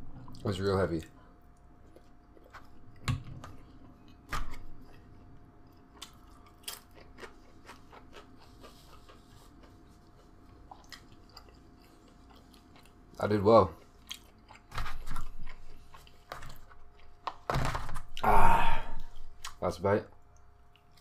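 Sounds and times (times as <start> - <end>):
man chewing food: 0.0 - 19.6, 20.2 - 21.0.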